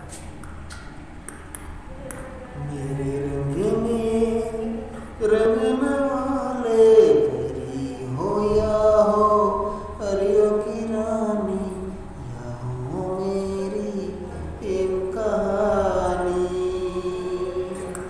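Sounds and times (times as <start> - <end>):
man singing unaccompanied: 2.5 - 18.0.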